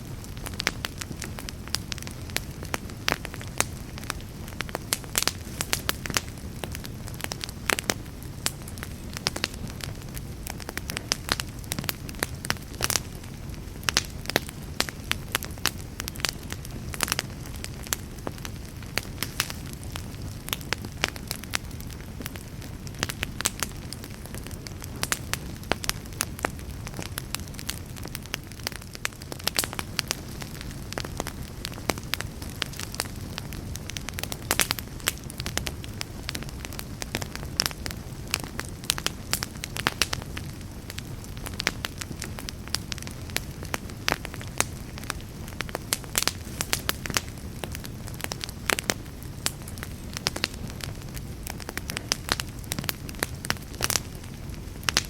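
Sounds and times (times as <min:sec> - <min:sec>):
flames rushing: 0:00.0 - 0:55.0
wood fire crackling and popping: 0:00.0 - 0:55.0.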